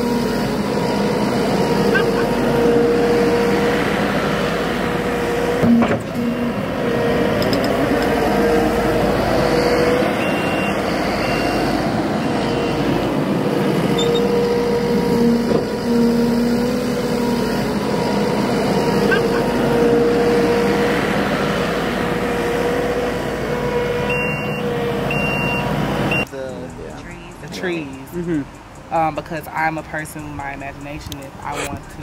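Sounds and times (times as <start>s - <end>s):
whining engine note: 0.0s - 30.9s
diesel engine droning: 0.0s - 32.0s.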